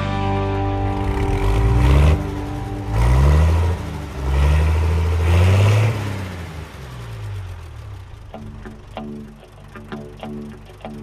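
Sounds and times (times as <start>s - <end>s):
engine revving: 0.4s - 11.0s.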